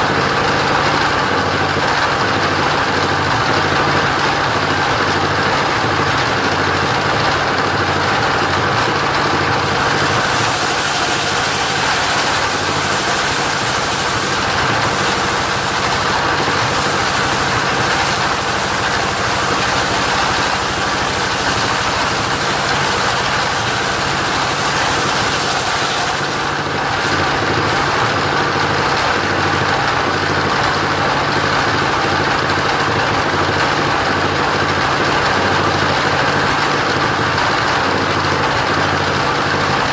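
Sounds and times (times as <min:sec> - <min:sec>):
sawmill sawing wood: 0:00.0 - 0:39.9.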